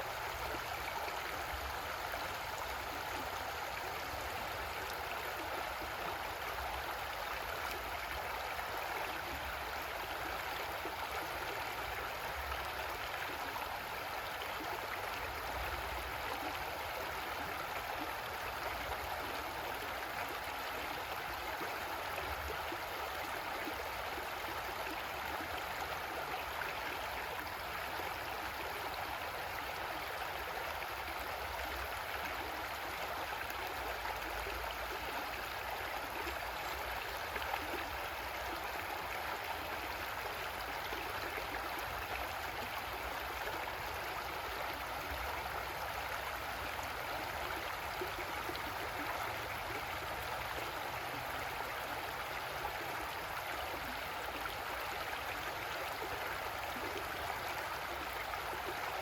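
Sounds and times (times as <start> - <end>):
creek water over rocks: 0.0 - 59.0.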